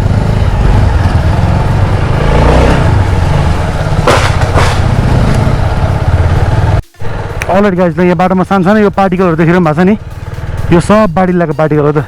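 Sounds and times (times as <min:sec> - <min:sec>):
motorcycle engine rumble: 0:00.0 - 0:11.9.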